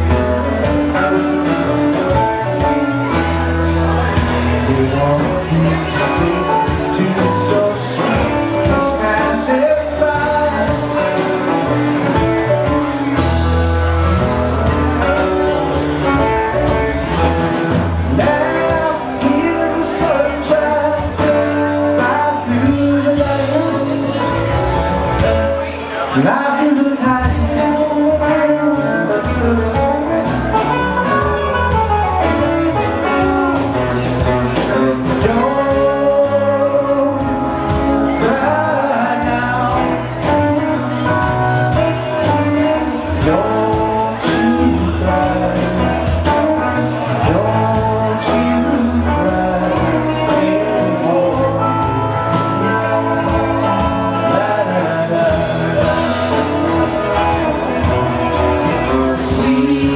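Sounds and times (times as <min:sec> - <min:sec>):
live rock band playing: 0:00.0 - 0:59.9
person singing: 0:00.0 - 0:59.9.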